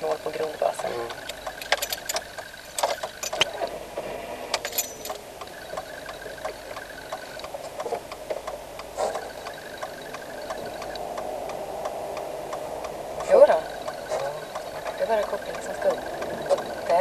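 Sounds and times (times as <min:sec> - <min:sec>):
car running: 0:00.0 - 0:17.0.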